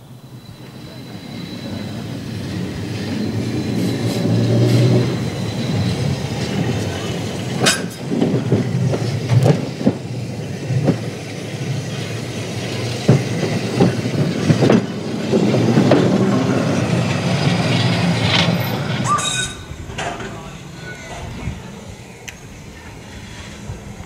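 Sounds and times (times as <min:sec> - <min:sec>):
tram wheels rumbling on rail: 0:00.0 - 0:24.0.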